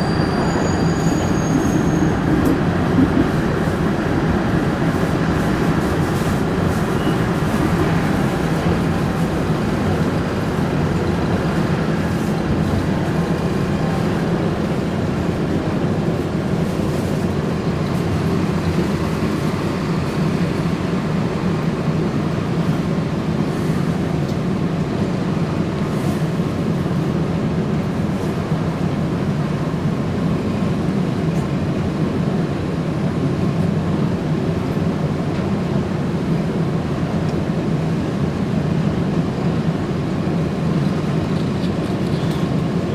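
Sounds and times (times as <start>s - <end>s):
streetcar interior rumble and hum: 0.0s - 42.9s.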